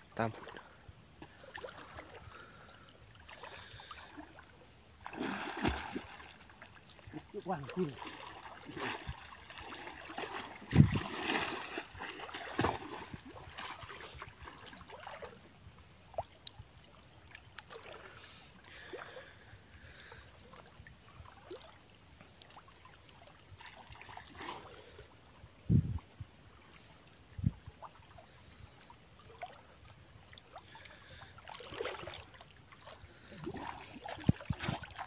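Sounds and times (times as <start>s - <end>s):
water lapping and trickling: 0.0s - 35.0s
water sloshing and splashing: 0.2s - 25.1s, 26.5s - 35.0s.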